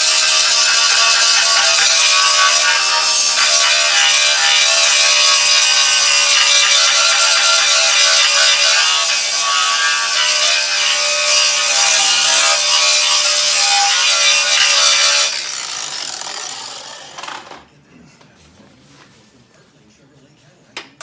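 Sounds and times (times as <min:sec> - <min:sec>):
power grinder whining: 0:00.0 - 0:17.5.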